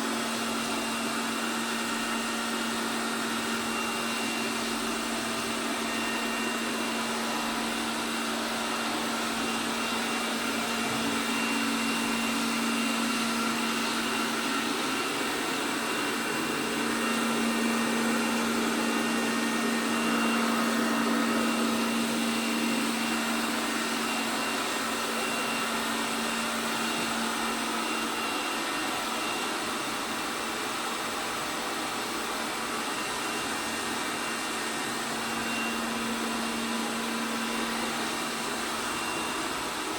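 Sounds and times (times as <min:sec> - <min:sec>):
robot vacuum cleaner running: 0:00.0 - 0:39.9.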